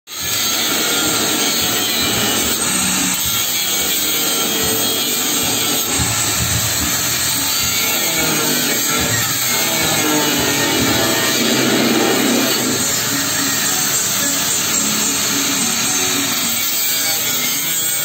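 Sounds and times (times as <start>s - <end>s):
angle grinder grinding steel: 0.1s - 18.0s.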